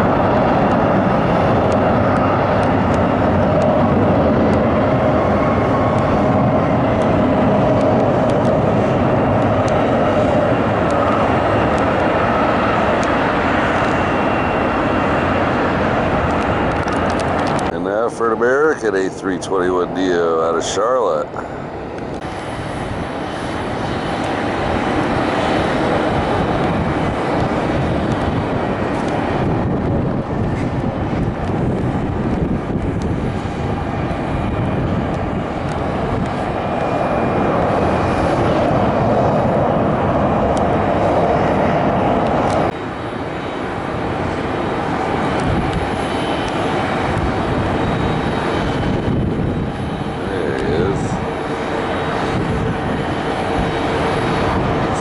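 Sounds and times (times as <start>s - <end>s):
airliner jet engines rumbling: 0.0s - 55.0s.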